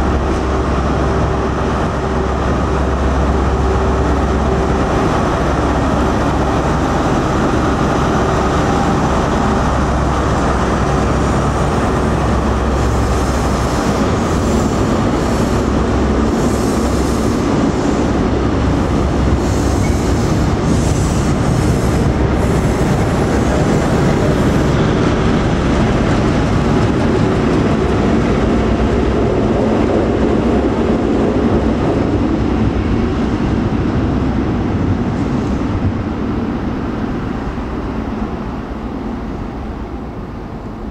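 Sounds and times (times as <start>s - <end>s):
diesel engine drone: 0.0s - 40.9s
train wheels running on rails: 0.0s - 40.9s.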